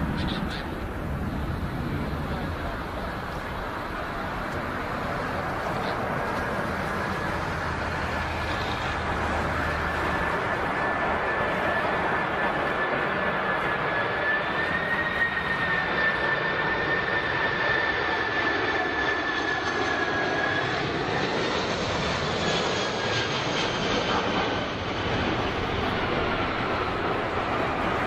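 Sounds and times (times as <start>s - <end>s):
airplane engines running: 0.0s - 28.0s.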